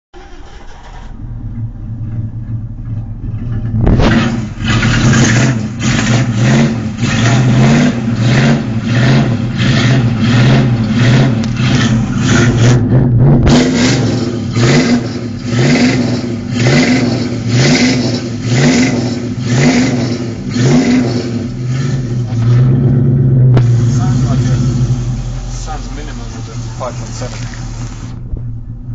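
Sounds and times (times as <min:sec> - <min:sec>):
car engine idling and revving: 0:00.2 - 0:28.9.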